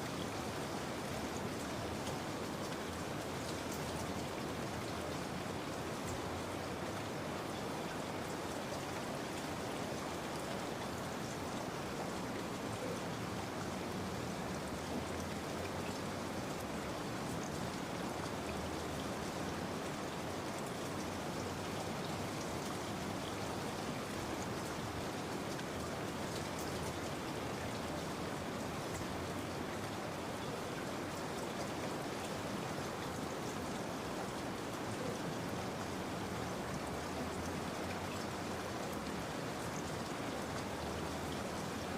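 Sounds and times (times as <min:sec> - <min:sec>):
patter of raindrops on surface: 0:00.0 - 0:41.9
steady rain falling: 0:00.0 - 0:41.9.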